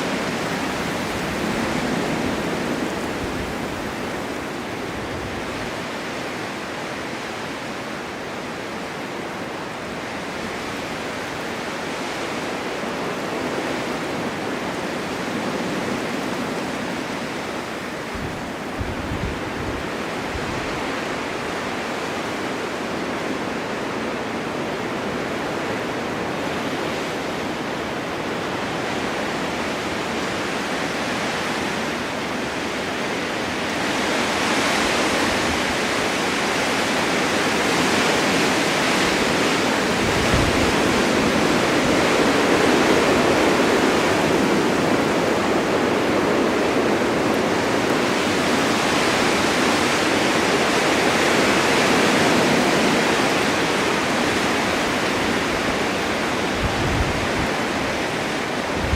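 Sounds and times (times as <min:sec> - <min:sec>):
blizzard wind rushing: 0:00.0 - 0:58.9.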